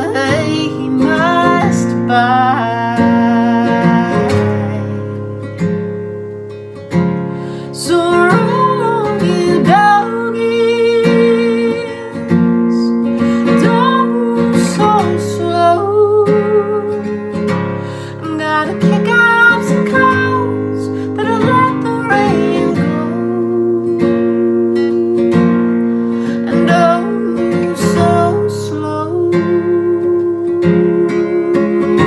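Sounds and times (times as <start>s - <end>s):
acoustic guitar strumming: 0.0s - 32.0s
woman singing folk song: 0.0s - 32.0s.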